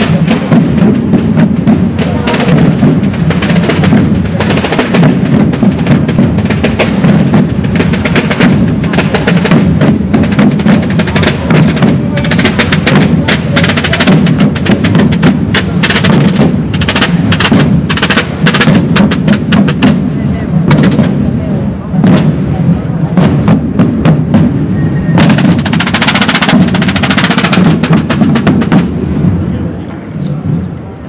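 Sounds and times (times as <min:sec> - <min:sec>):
rapid drum roll: 0:00.0 - 0:29.7.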